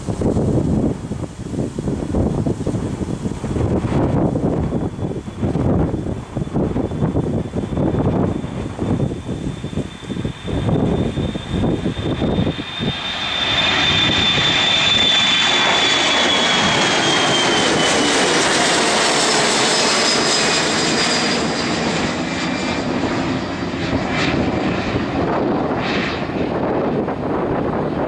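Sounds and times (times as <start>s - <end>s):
jet engines roaring with fan whine: 0.0s - 28.0s.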